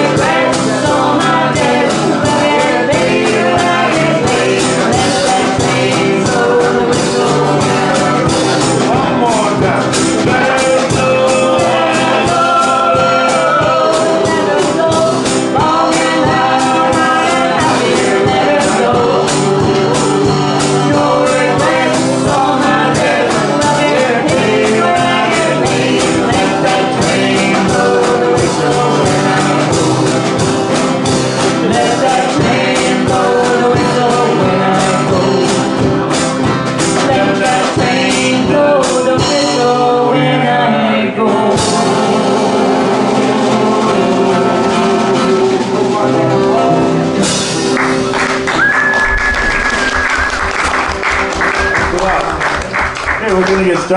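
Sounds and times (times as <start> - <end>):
woman singing: 0.0 - 9.0, 10.2 - 30.6, 31.5 - 36.0, 36.8 - 46.8
banjo: 0.0 - 48.6
acoustic guitar: 0.0 - 53.9
drums: 0.0 - 53.9.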